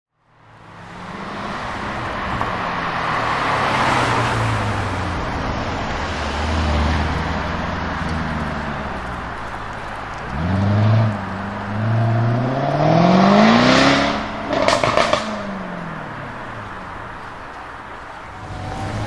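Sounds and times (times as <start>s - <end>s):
tyre and road noise: 0.2s - 19.0s
car engine at low revs: 0.4s - 19.0s.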